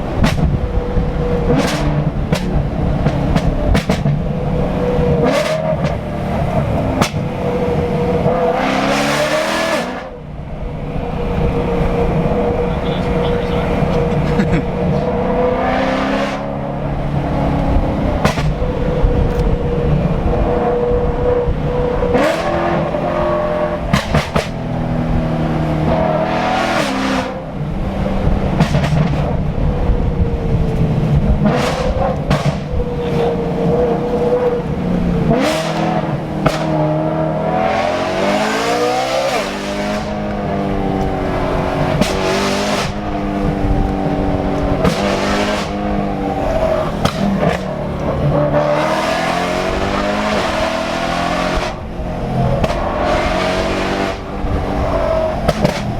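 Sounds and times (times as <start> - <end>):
car engine revving hard: 0.0 - 55.9.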